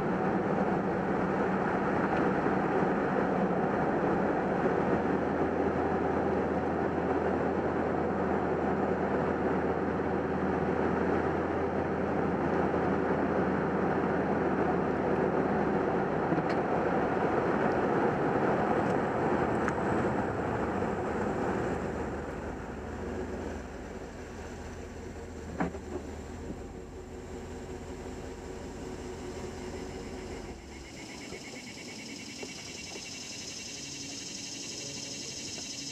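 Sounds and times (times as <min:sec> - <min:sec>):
road and engine noise: 0:00.0 - 0:35.9.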